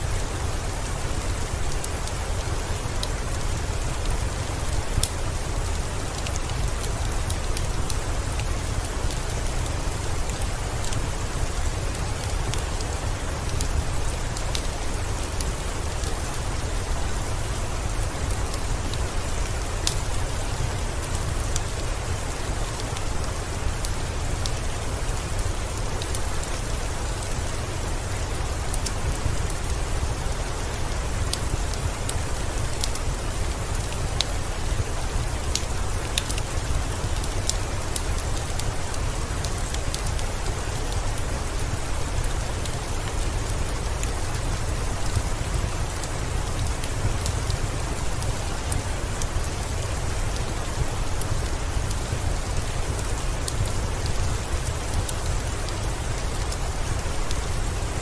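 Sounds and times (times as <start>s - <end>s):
heavy rain falling: 0.0s - 58.0s
wood fire crackling: 0.0s - 58.0s.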